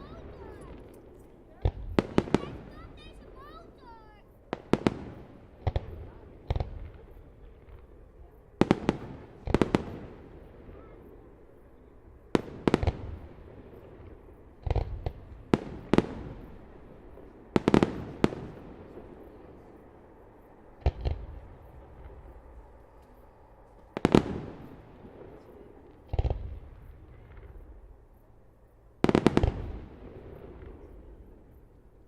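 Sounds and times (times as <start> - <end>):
fireworks bursting with bangs: 0.0 - 28.3, 29.0 - 31.9
rolling echo: 0.0 - 32.0.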